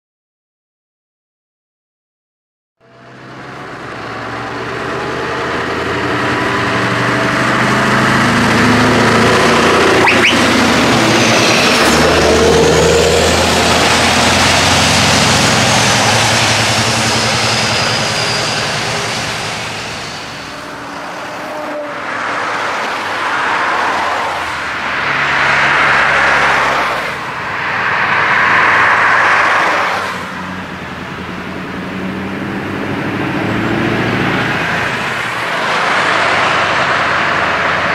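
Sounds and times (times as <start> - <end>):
truck diesel engine passing: 2.8 - 37.9.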